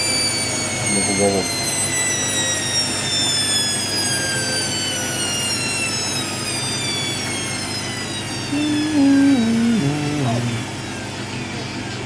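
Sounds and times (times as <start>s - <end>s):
washer dryer drum motor whining: 0.0s - 12.0s.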